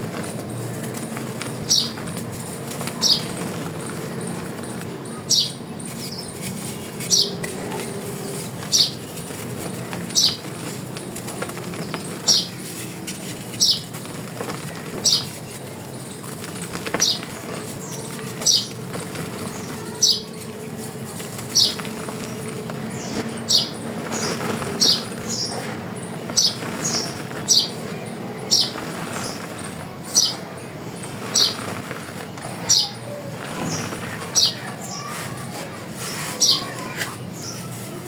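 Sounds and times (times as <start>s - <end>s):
dry chalk crushing and crackling: 0.0s - 38.0s.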